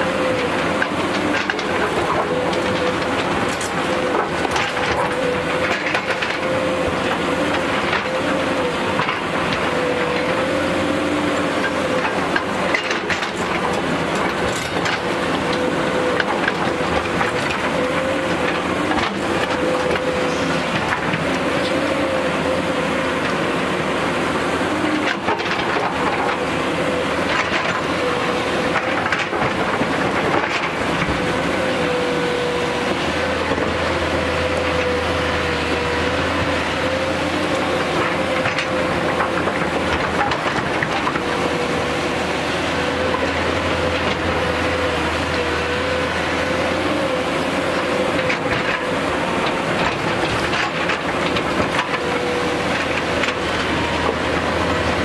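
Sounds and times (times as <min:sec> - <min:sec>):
excavator diesel engine whining: 0:00.0 - 0:55.0.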